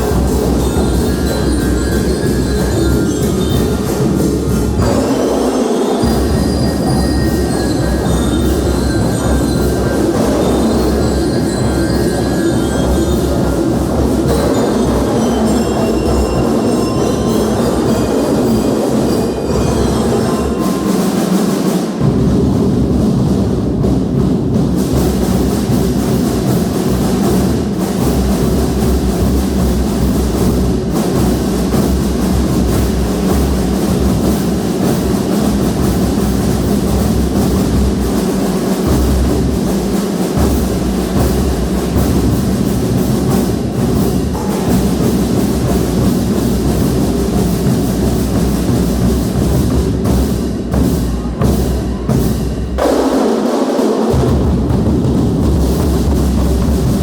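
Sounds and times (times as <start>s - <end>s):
marching band drums: 0.0s - 57.0s.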